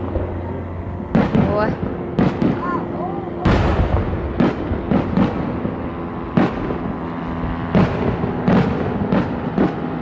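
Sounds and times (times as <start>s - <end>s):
fireworks booms and cracks: 1.1s - 10.0s.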